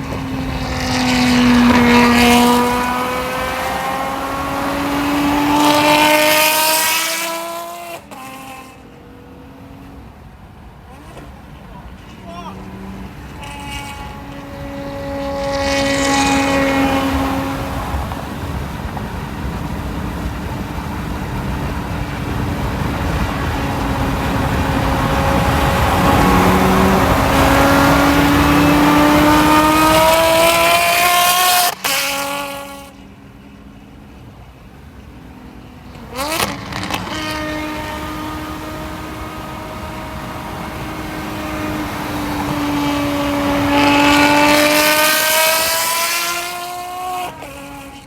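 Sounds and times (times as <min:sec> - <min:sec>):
engine revving: 0:00.0 - 0:08.9, 0:12.2 - 0:33.0, 0:35.9 - 0:48.0
car engine accelerating hard: 0:00.0 - 0:48.0.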